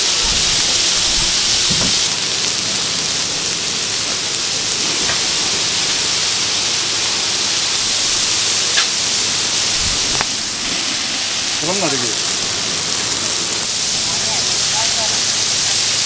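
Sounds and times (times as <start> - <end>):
meat sizzling on griddle: 0.0 - 16.0.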